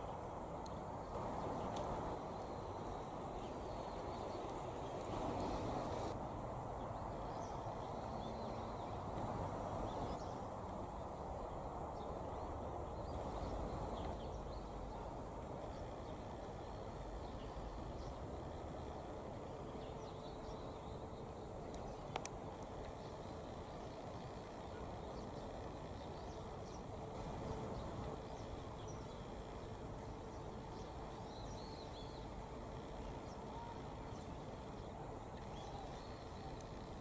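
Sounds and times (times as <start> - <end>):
outdoor background noise: 0.0 - 37.0.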